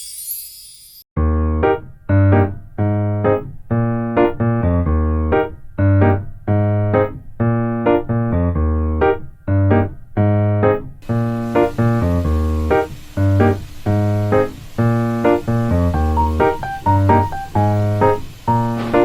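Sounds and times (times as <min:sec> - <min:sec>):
keyboard chord pattern: 0:01.2 - 0:19.0.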